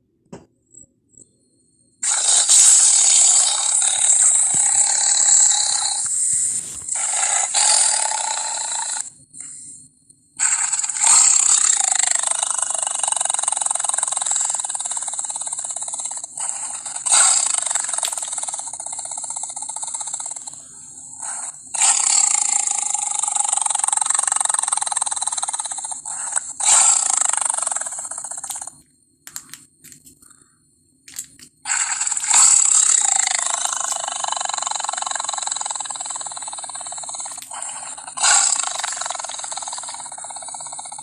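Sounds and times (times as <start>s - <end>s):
harsh hissing creature screeches: 2.0s - 9.1s, 10.4s - 20.5s, 21.1s - 28.6s, 31.7s - 41.0s.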